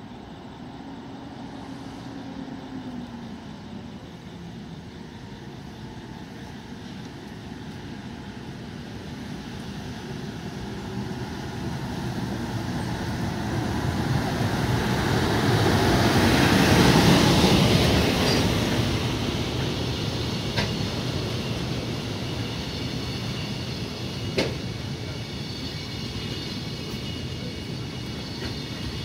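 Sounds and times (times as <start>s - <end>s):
electric locomotive passing: 0.0s - 29.0s.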